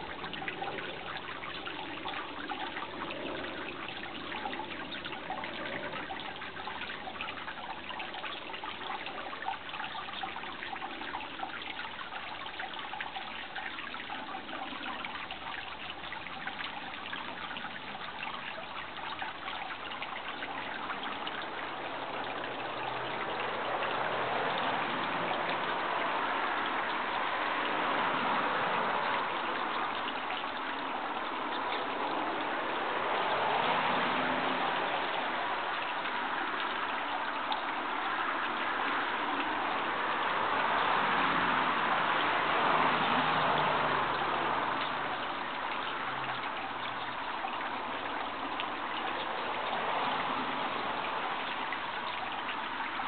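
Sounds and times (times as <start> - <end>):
water trickling and splashing: 0.0 - 53.0.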